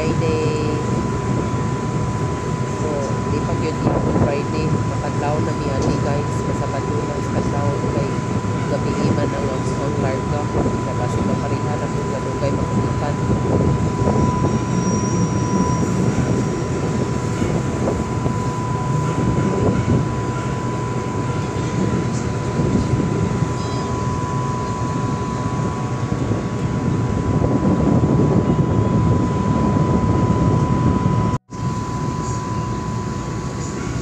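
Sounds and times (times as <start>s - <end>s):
ferry engines rumbling: 0.0s - 34.0s
thin steady whine: 0.0s - 34.0s.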